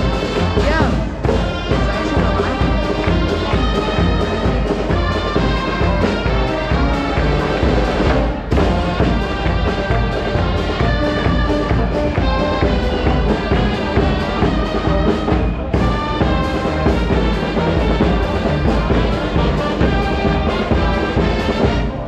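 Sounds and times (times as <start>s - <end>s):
brass band music: 0.0s - 22.0s
steady drum beat: 0.0s - 22.0s.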